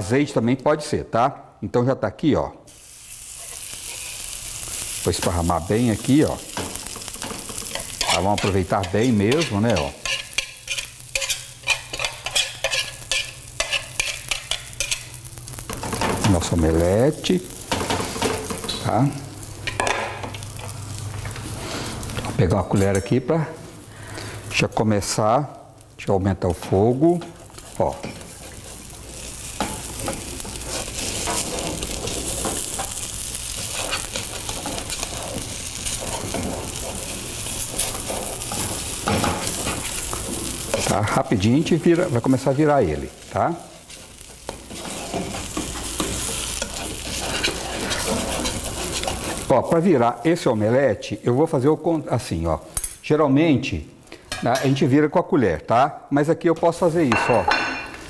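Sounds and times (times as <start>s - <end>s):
batter sizzling in pan: 2.7s - 22.8s, 23.5s - 52.9s.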